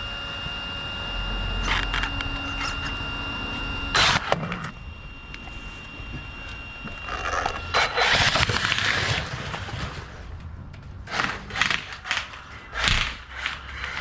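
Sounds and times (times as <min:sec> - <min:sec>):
toy car tyres spinning on tarmac: 0:00.0 - 0:14.0.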